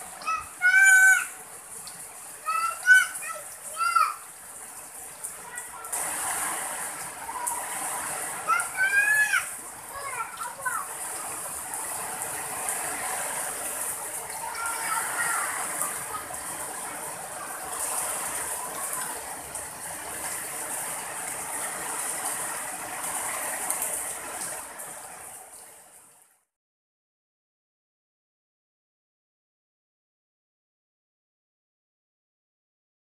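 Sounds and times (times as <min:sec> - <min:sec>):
heavy rain on leaves: 0:00.0 - 0:26.6.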